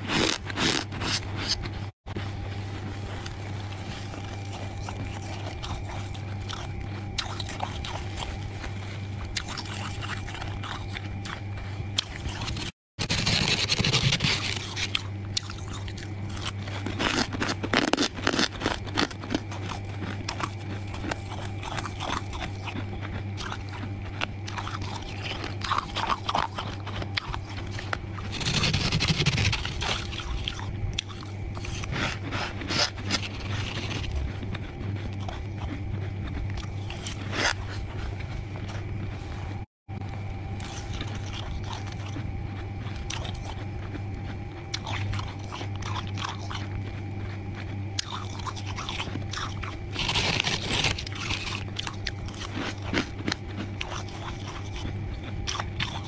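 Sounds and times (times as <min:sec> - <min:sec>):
low hum: 0:00.0 - 0:56.0.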